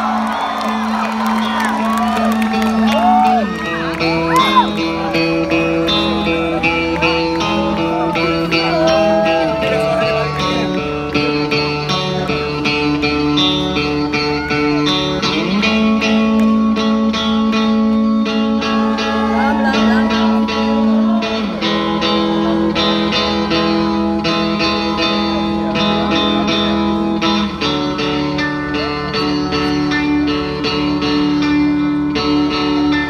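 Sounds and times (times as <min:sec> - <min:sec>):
live band through pa: 0:00.0 - 0:33.0
guitar picking a pattern: 0:00.2 - 0:33.0.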